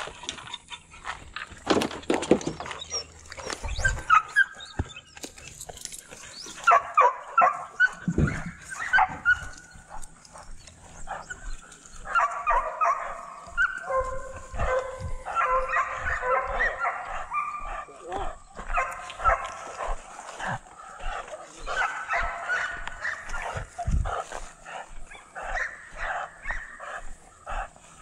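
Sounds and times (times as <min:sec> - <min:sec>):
dogs whining and yipping: 0:00.0 - 0:01.6, 0:02.2 - 0:24.2, 0:24.9 - 0:28.0.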